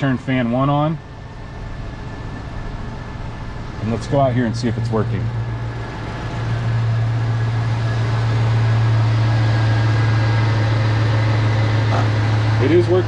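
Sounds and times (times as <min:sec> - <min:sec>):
electric cooling fans running: 0:00.0 - 0:13.0
truck engine idling: 0:00.0 - 0:13.0.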